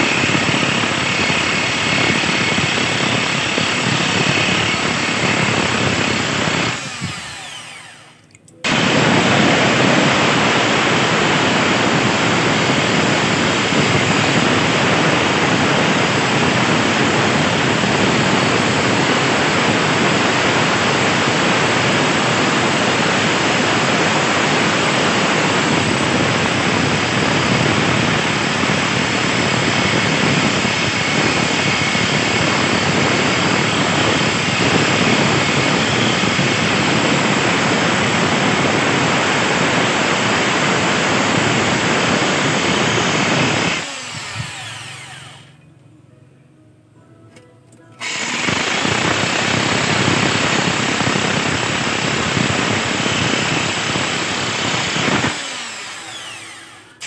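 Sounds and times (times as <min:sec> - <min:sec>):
electric drill running: 0:00.0 - 0:45.7, 0:48.0 - 0:57.0.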